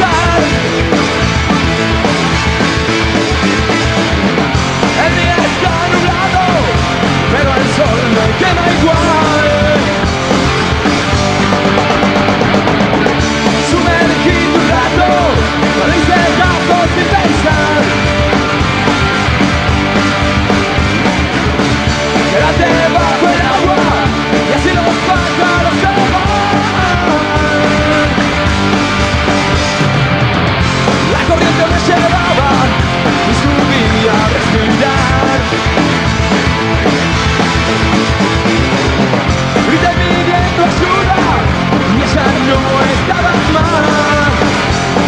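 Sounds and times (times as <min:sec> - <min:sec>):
drums: 0:00.0 - 0:45.0
electric guitars: 0:00.0 - 0:45.0
punk rock band playing live: 0:00.0 - 0:45.0.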